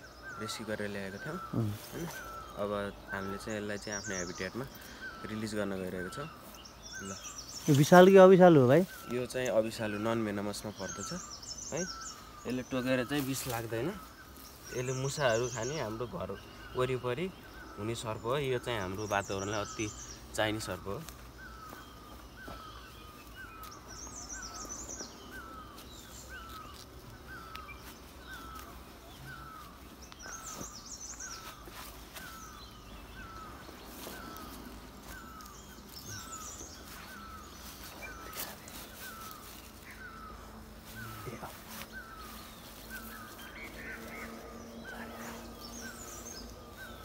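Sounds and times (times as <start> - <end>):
bird repeating call: 0.0 - 47.0
faint high bird chirps: 0.0 - 47.0.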